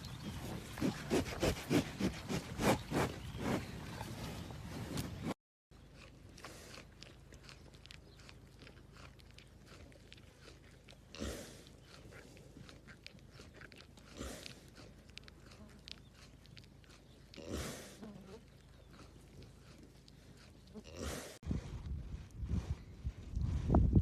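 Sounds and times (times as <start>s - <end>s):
cow chewing feed: 0.0s - 24.0s
cow puffing: 0.0s - 24.0s.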